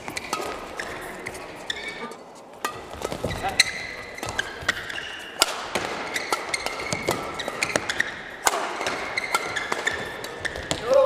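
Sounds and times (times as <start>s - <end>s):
rackets striking shuttlecock: 0.0s - 11.0s
shoes squeaking on court: 0.0s - 11.0s.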